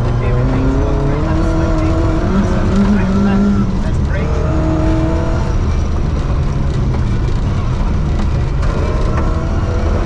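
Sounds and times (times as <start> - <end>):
car engine running hard: 0.0 - 10.0.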